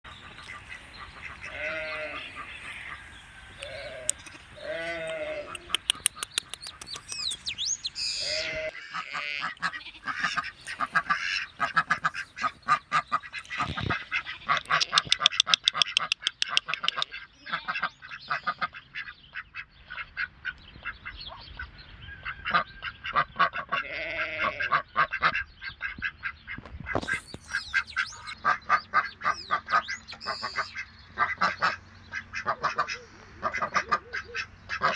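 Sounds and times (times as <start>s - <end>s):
poultry honking calls: 0.1s - 6.8s, 8.0s - 34.9s
ducks quacking: 0.1s - 7.4s, 8.0s - 34.9s.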